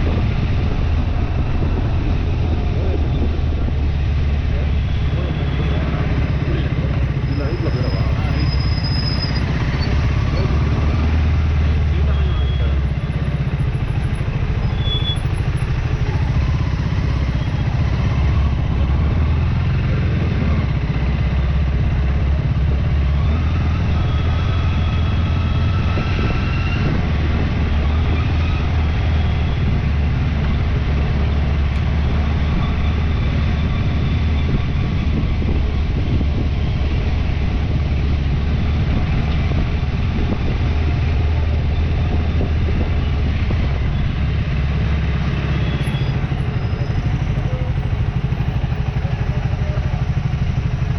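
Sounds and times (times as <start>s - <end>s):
motorcycle engine running: 0.0s - 50.9s
road noise: 0.0s - 50.9s.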